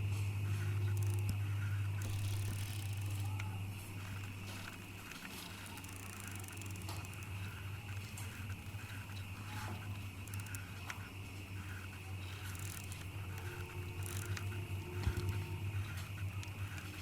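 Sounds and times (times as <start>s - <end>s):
bicycle rattles and clicks: 0.0s - 17.0s
bicycle rolling hum: 0.0s - 17.0s.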